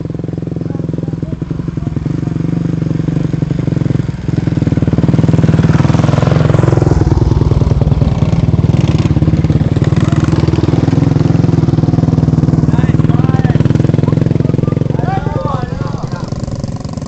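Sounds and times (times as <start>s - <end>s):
small dirt bike engines: 0.0s - 17.0s.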